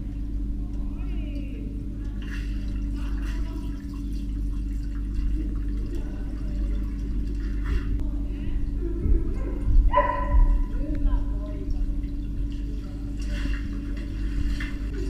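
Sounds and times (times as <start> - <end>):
faint splashing and bubbling: 0.0 - 15.0
underwater low rumble and hum: 0.0 - 15.0.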